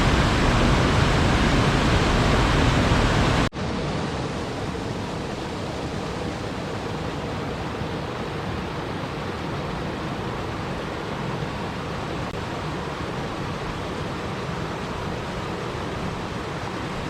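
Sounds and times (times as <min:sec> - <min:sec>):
flowing water: 0:00.0 - 0:17.0.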